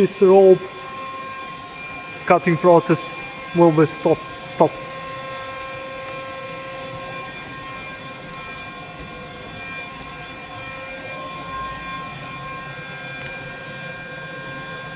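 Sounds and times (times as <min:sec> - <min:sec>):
workshop machinery humming and whining: 0:00.0 - 0:14.9.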